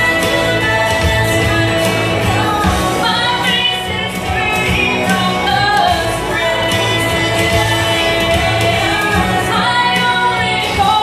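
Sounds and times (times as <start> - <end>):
instrumental backing music: 0.0 - 11.0
woman singing into a microphone: 0.0 - 11.0.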